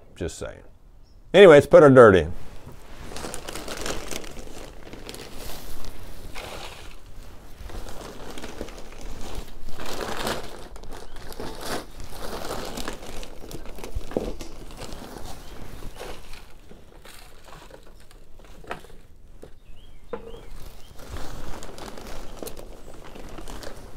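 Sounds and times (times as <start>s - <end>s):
plastic bag crinkling: 2.5s - 19.5s, 20.3s - 23.9s.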